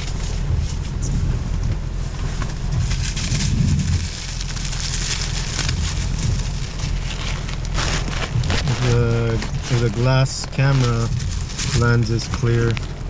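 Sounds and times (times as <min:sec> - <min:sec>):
low car rumble: 0:00.0 - 0:13.0
rain pattering on car roof: 0:00.0 - 0:13.0.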